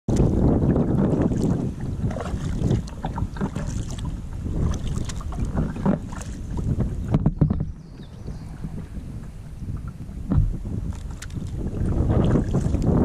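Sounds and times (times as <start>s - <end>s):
water splashing against hull: 0.1s - 13.0s
wind buffeting microphone: 0.1s - 13.0s.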